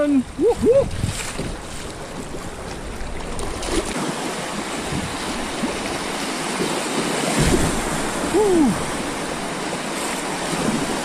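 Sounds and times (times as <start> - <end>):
creek water rushing and splashing: 0.0 - 11.0.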